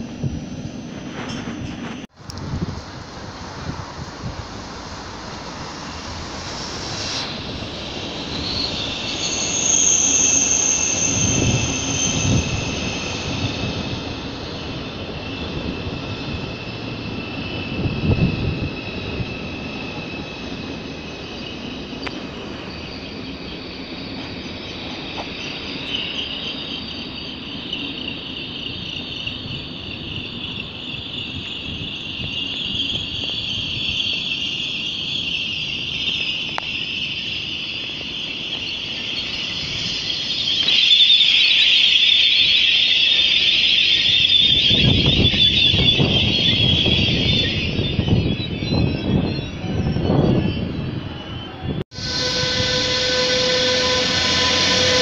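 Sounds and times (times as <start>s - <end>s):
train wheels screeching: 0.0s - 2.2s, 2.9s - 55.0s
train rumbling: 0.0s - 55.0s.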